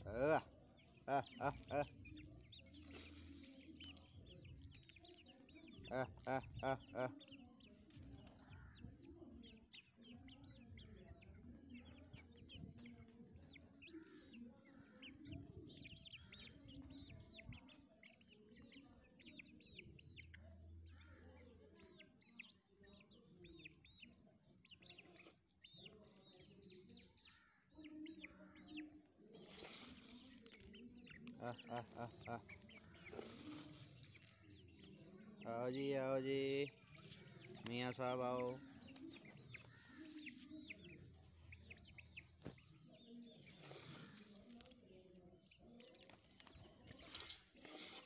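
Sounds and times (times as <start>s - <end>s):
hens clucking: 0.0s - 22.5s, 23.4s - 48.0s.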